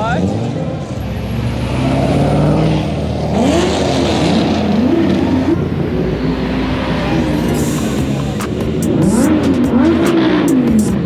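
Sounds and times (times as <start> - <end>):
sports cars driving past revving: 0.0 - 11.0.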